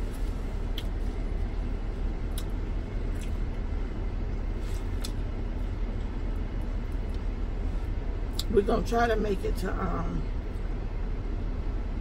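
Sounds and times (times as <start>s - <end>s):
low rumble inside vehicle cabin: 0.0s - 12.0s.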